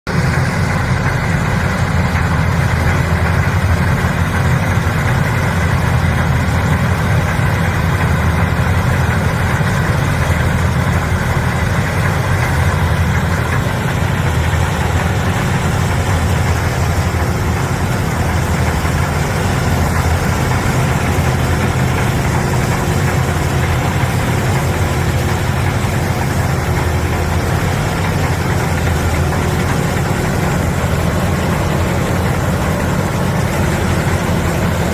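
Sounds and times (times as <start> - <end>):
combine engine droning: 0.1 - 34.9.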